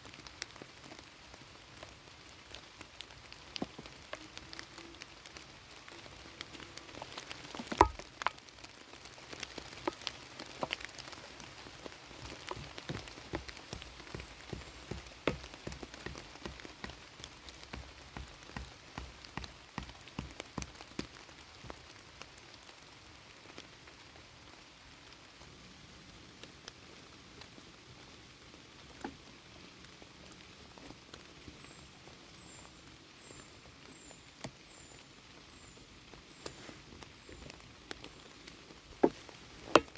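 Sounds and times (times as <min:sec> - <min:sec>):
raindrops striking close by: 0:00.0 - 0:33.0.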